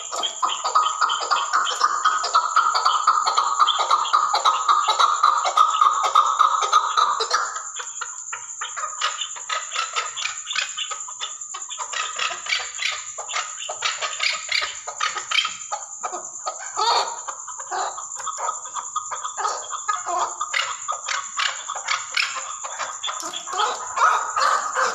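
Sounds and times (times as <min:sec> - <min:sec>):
partridge clucking calls: 0:00.0 - 0:24.9.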